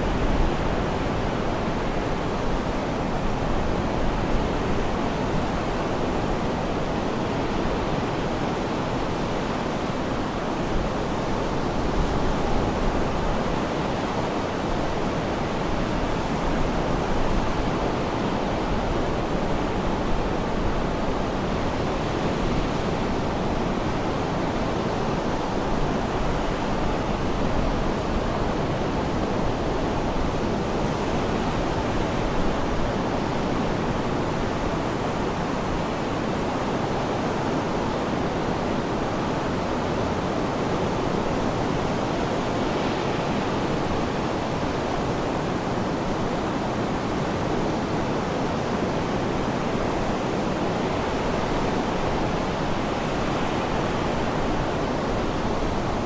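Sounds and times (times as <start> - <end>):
sea surf rushing: 0.0 - 56.0.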